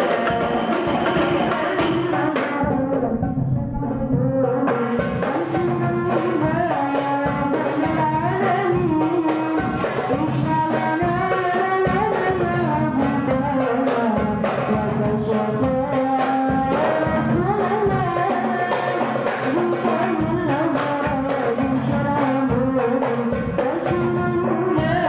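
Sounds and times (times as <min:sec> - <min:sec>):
frame drums beating: 0:00.0 - 0:02.9, 0:05.0 - 0:25.0.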